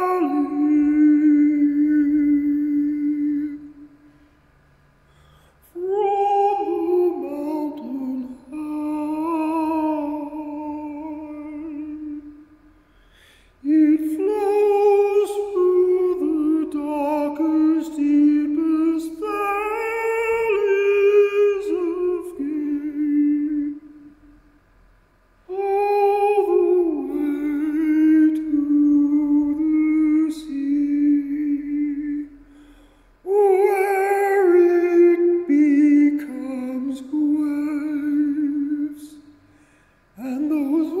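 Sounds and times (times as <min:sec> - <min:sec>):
man singing unaccompanied: 0:00.0 - 0:04.1, 0:05.6 - 0:12.7, 0:13.6 - 0:24.4, 0:25.4 - 0:32.6, 0:33.2 - 0:39.4, 0:40.1 - 0:41.0.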